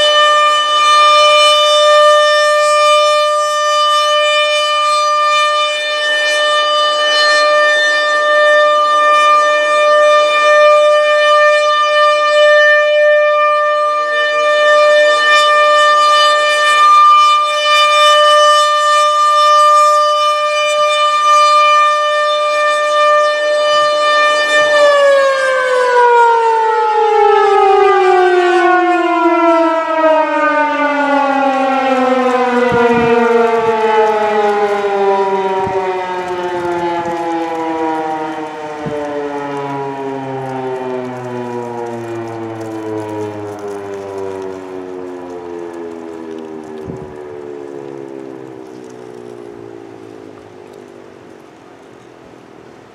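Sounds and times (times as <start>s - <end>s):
siren winding down: 0.0s - 52.0s
warning siren steady tone: 0.0s - 52.9s.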